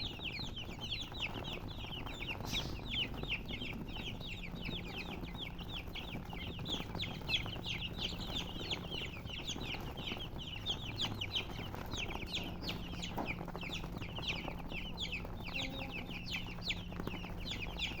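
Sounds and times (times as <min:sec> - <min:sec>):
baby chicks peeping: 0:00.0 - 0:18.0.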